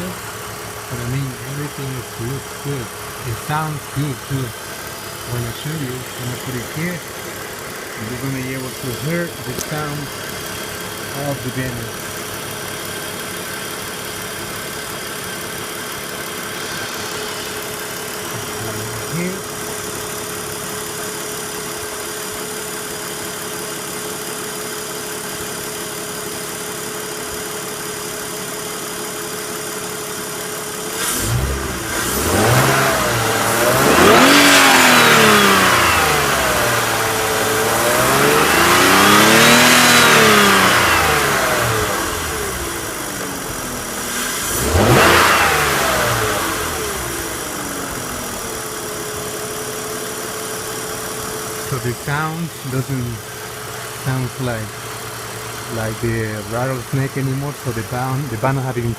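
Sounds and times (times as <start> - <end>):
car engine idling and revving: 0.0 - 58.9.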